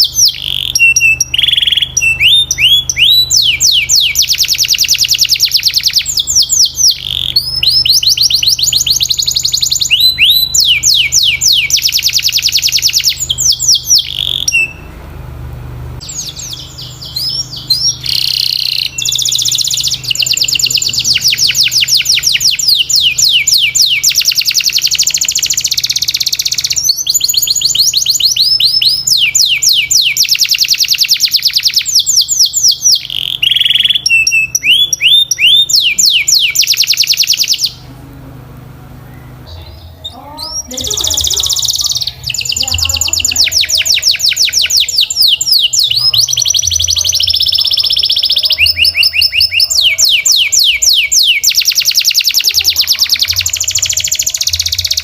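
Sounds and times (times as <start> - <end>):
canary singing trills: 0.0 - 15.0, 16.0 - 55.0.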